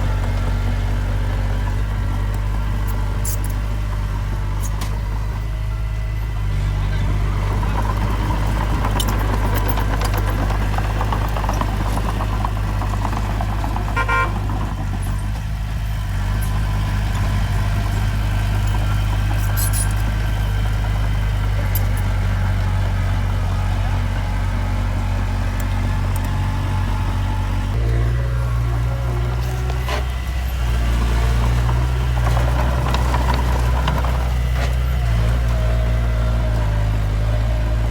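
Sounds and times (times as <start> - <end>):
heavy diesel machinery droning: 0.0 - 37.9.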